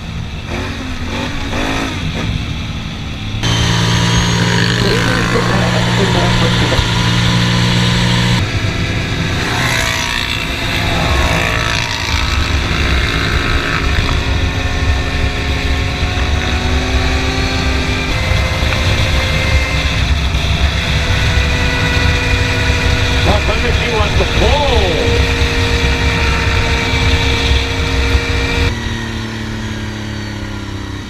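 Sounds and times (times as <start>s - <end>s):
quad engine running: 0.0s - 31.0s.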